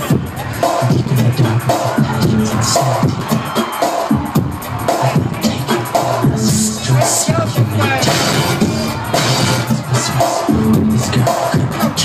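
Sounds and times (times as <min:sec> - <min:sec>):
pop dance music: 0:00.0 - 0:12.0.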